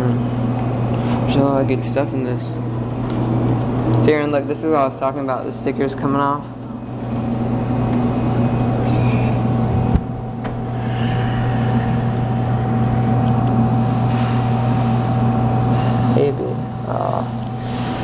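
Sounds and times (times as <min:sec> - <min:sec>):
claw machine humming: 0:00.0 - 0:18.0.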